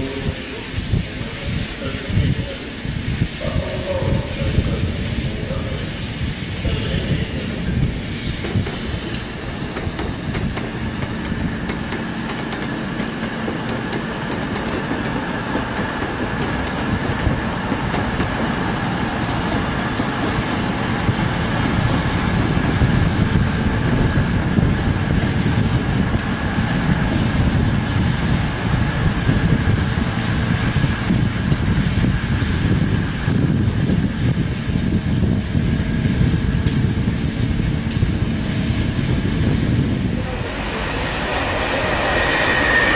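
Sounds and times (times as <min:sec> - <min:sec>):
train rumbling on track: 0:00.0 - 0:42.9.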